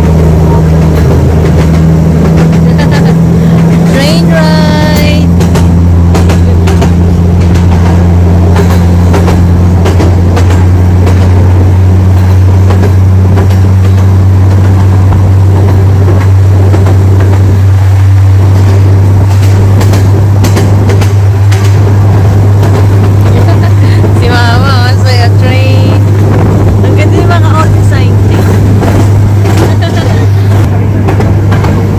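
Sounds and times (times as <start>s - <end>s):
vehicle engine drone: 0.0s - 31.9s.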